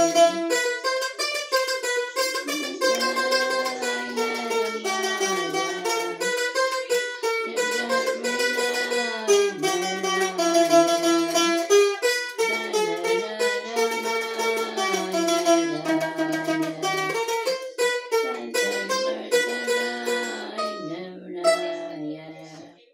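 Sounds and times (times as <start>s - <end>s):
plucked string instrument melody: 0.0s - 22.6s.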